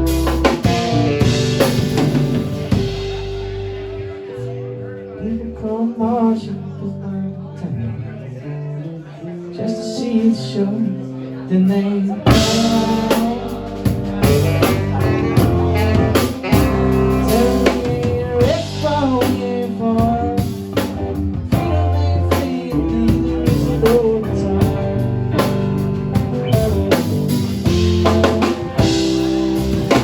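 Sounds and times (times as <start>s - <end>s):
live band playing: 0.0s - 6.4s, 9.6s - 30.0s.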